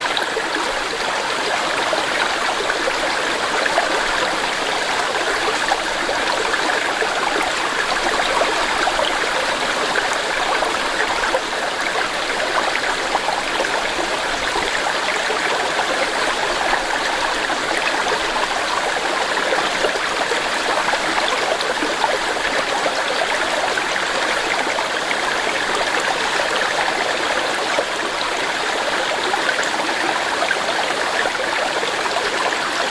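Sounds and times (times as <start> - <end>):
stream running over rocks: 0.0 - 32.9.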